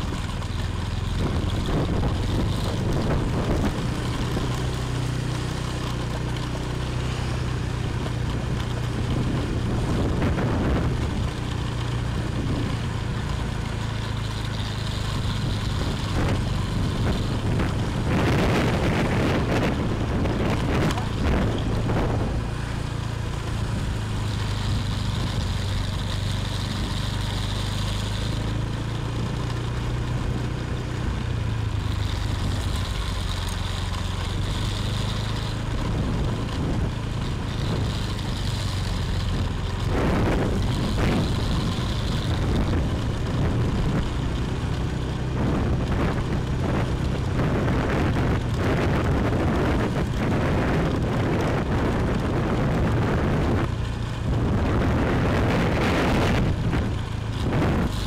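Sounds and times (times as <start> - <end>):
motorbike engine running: 0.0 - 58.0.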